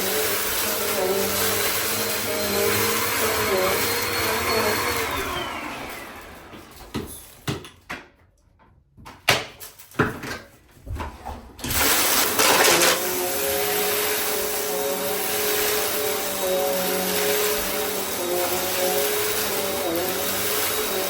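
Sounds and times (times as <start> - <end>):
vacuum cleaner motor: 0.0 - 7.5, 11.6 - 21.0.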